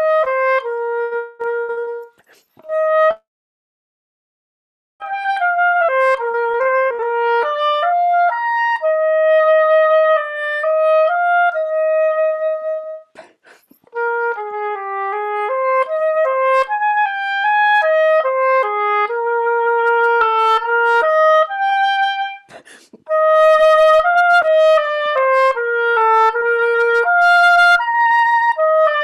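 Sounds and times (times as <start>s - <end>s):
oboe melody: 0.0s - 3.2s, 5.0s - 29.0s.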